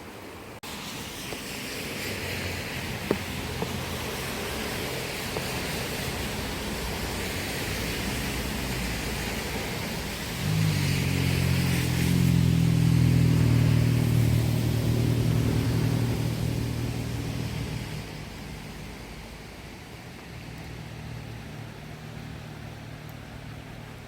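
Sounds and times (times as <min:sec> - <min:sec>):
stream water rushing: 0:00.0 - 0:24.0
vehicle engine humming: 0:02.5 - 0:24.0.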